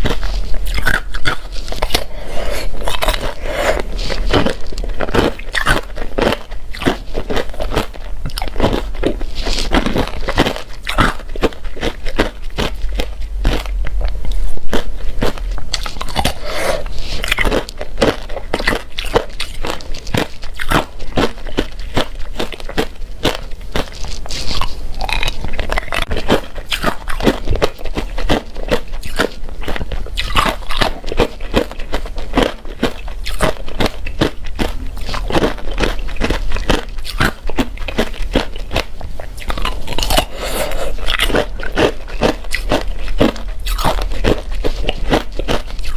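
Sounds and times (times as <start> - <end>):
chewing crunchy ice: 0.0 - 45.9.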